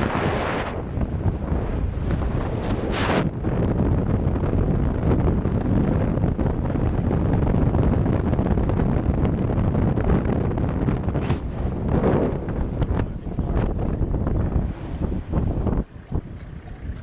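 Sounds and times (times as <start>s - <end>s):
wind buffeting microphone: 0.0s - 17.0s
vehicle rumble: 0.9s - 17.0s.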